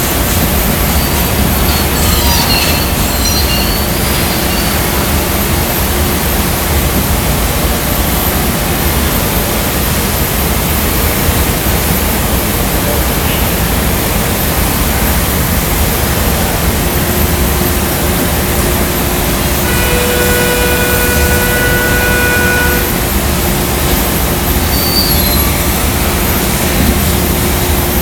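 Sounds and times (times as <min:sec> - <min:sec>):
furnace burners roaring: 0:00.0 - 0:28.0
large cooling fans running: 0:00.0 - 0:28.0.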